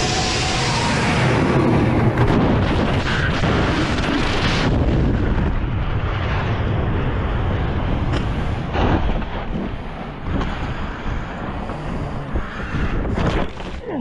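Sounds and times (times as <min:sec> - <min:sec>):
low wind rumble: 0:00.0 - 0:14.0.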